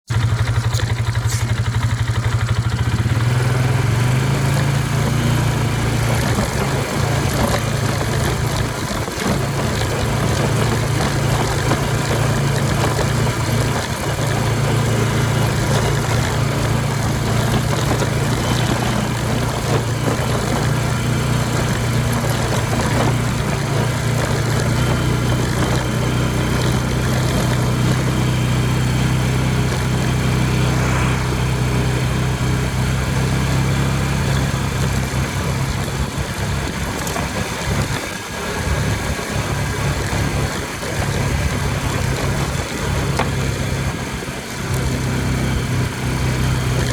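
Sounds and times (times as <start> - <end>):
atv engine running: 0.1 - 46.9.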